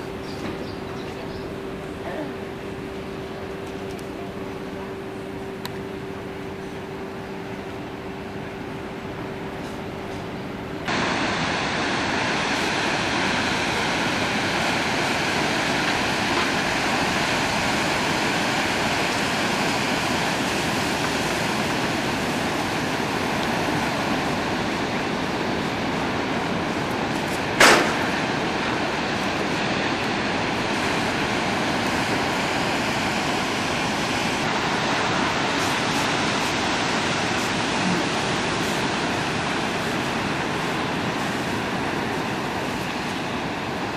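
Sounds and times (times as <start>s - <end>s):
heavy surf breaking on shore: 1.6s - 43.9s.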